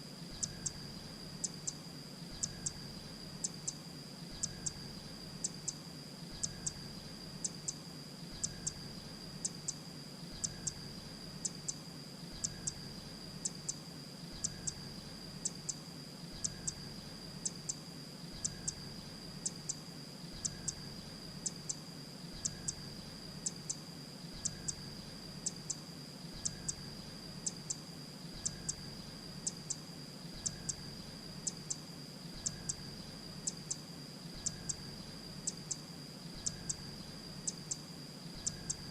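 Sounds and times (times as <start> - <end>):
steady high-pitched whine: 0.0 - 38.9.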